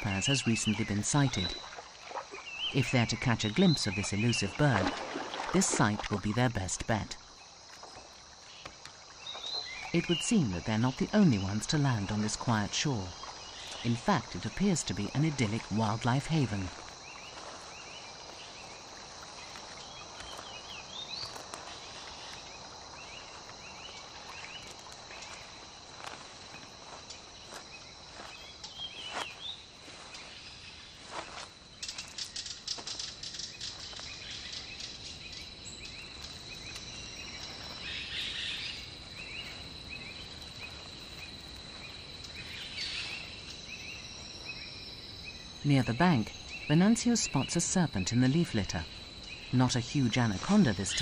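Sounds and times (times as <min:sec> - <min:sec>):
insect drone: 0:00.0 - 0:51.0.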